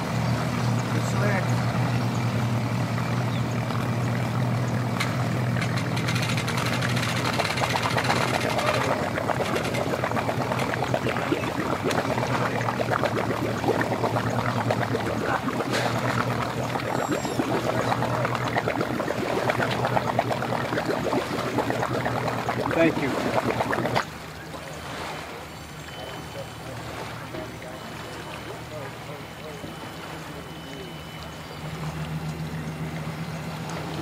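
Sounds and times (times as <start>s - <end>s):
outboard motor hum: 0.0s - 34.0s
propeller wash splashing: 0.0s - 34.0s.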